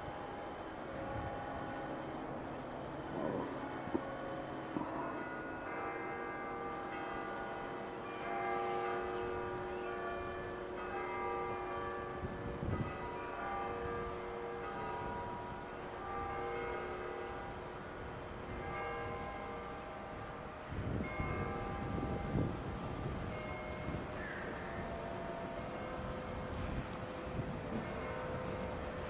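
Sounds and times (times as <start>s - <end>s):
church bells ringing: 0.0s - 29.0s
low rumble of electric train: 0.0s - 29.0s.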